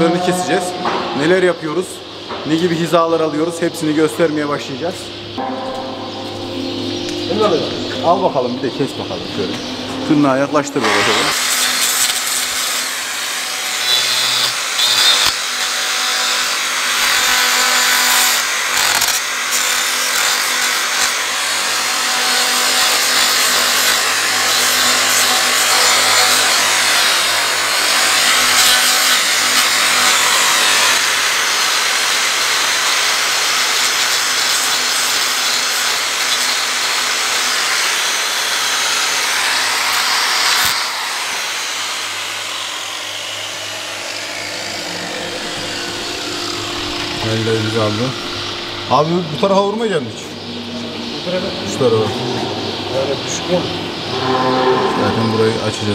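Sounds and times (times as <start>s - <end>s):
angle grinder grinding hoof: 5.3s - 49.7s, 50.7s - 55.9s.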